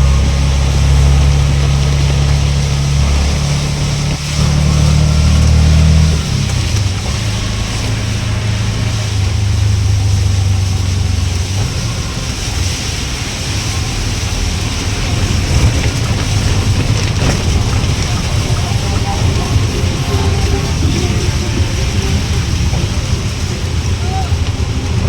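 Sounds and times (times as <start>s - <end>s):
car engine and road rumble: 0.0s - 25.0s
rain and tyre spray hiss: 0.0s - 25.0s.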